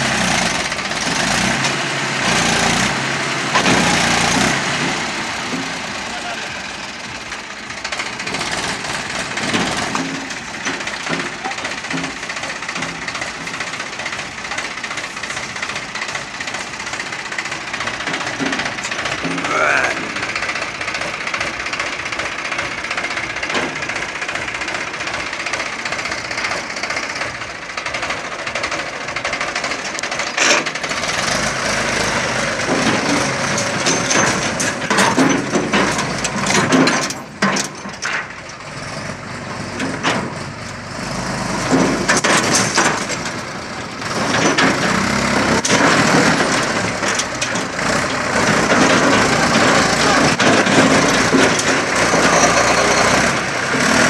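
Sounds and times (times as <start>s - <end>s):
tractor diesel engine straining: 0.0s - 54.0s.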